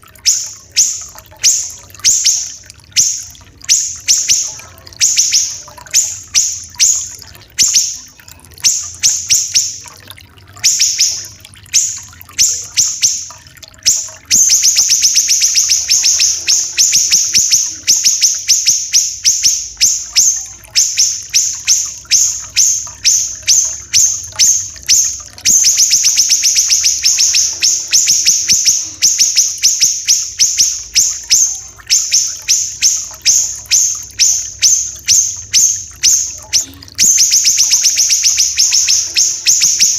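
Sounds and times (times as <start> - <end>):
faint trickling water: 0.0 - 39.9
songbird singing rapid sharp notes: 0.2 - 9.9, 10.6 - 39.9.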